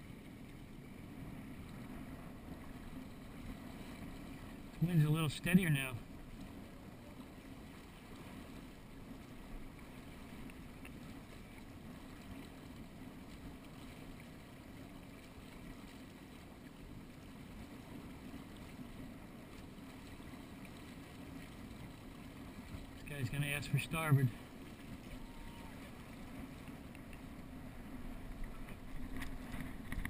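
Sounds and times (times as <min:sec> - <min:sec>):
water rushing past boat: 0:00.0 - 0:30.0.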